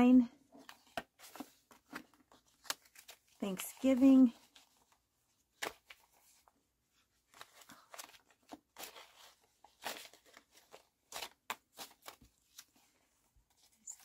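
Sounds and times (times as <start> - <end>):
banknotes crinkling and flicking: 0.5 - 14.0.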